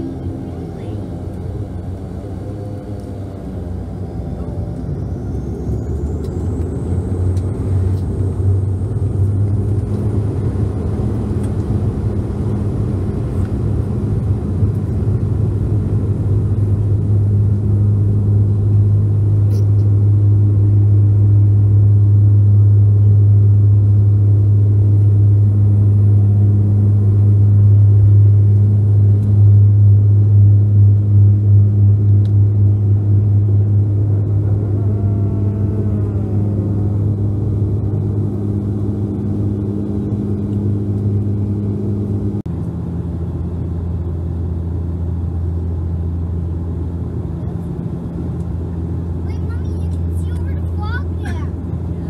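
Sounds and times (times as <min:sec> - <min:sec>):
turboprop cabin drone: 0:00.0 - 0:52.0.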